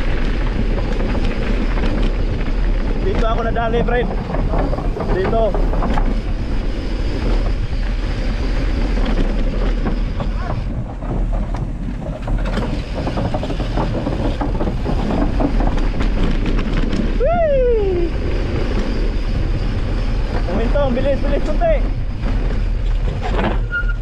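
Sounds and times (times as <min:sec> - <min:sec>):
bike clicks and rattles: 0:00.0 - 0:17.4, 0:18.1 - 0:24.0
steady rumble of bike: 0:00.0 - 0:24.0
wind buffeting microphone: 0:00.0 - 0:24.0.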